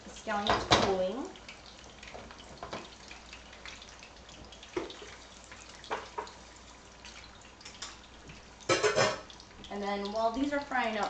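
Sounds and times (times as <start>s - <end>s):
frying sizzle in hot oil: 0.0s - 11.0s.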